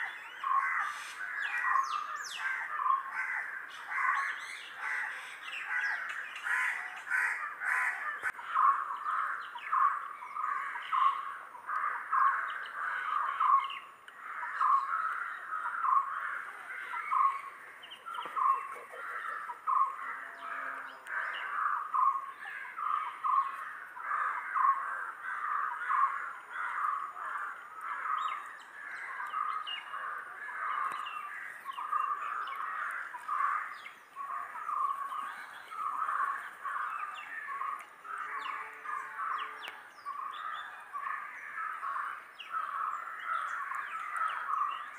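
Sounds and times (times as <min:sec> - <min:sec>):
flock of birds calling: 0:00.0 - 0:44.9.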